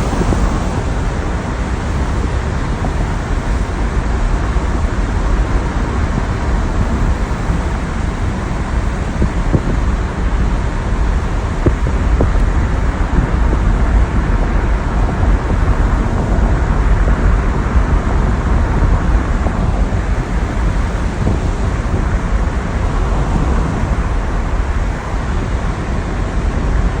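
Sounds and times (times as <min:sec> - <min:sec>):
road noise: 0:00.0 - 0:27.0
wind noise: 0:00.0 - 0:27.0.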